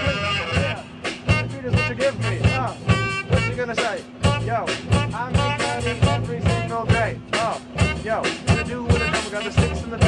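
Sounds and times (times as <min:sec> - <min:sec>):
drum beat: 0:00.0 - 0:10.0
electric bass line: 0:00.0 - 0:10.0
saxophone phrases: 0:00.0 - 0:10.0.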